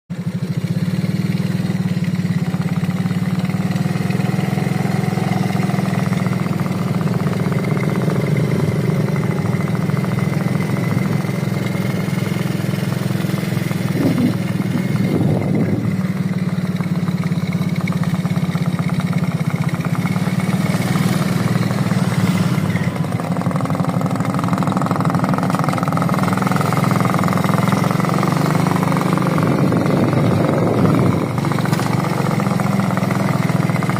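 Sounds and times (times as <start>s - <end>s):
engine idling: 0.1s - 33.9s.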